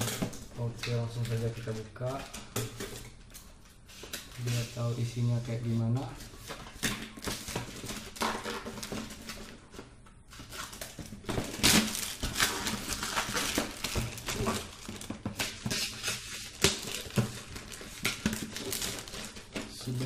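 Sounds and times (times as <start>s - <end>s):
plastic wrapping crinkling: 0.0s - 20.0s.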